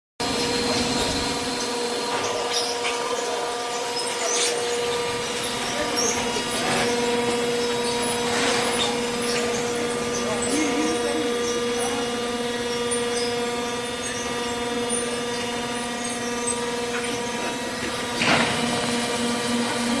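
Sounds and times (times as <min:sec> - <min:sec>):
strapping machine motor hum: 0:00.2 - 0:20.0.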